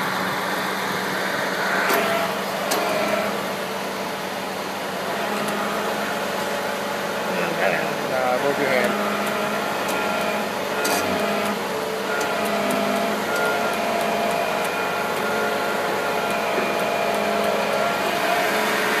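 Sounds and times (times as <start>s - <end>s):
vehicle hoist humming: 0.0s - 19.0s.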